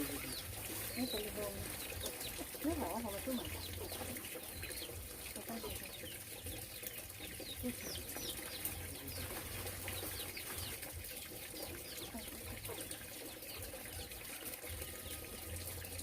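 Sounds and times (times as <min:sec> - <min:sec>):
birds chirping: 0:00.0 - 0:14.2.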